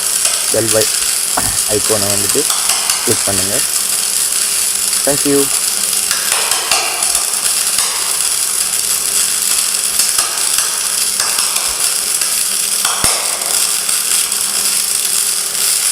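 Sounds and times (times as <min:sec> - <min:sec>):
sharp welding pops: 0:00.0 - 0:15.9
welding arc crackling: 0:00.0 - 0:15.9.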